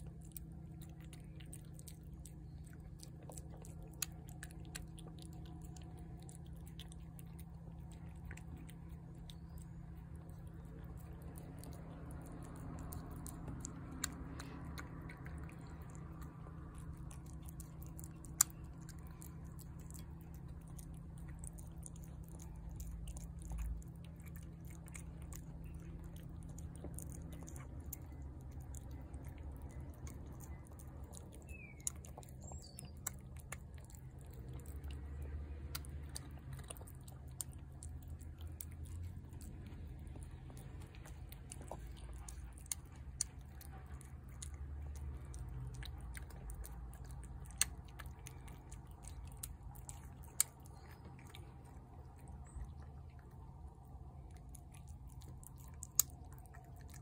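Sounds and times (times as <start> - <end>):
cat chewing wet food: 0.0 - 57.0.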